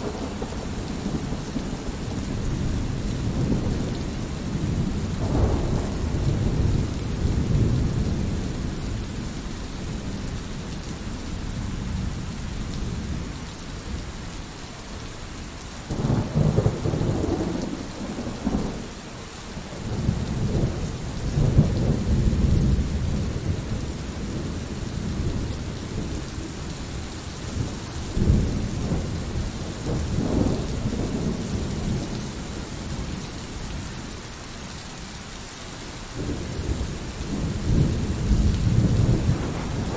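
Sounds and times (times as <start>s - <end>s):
low thunder rumbling: 0.0s - 14.0s, 15.9s - 18.9s, 19.6s - 34.1s, 36.2s - 39.9s
steady rain: 0.0s - 39.9s.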